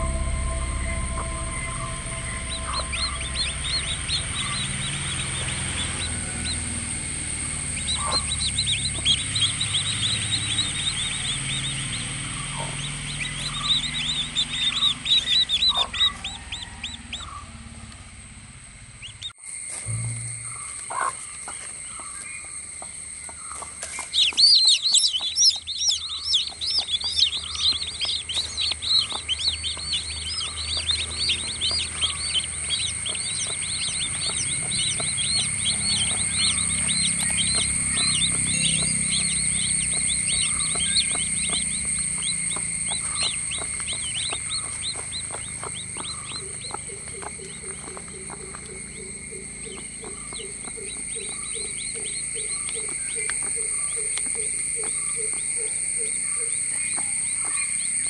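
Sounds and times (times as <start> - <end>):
high-pitched background tone: 0.0 - 17.4, 19.7 - 21.7, 24.0 - 57.8
chicks peeping: 2.2 - 17.6, 19.0 - 58.0.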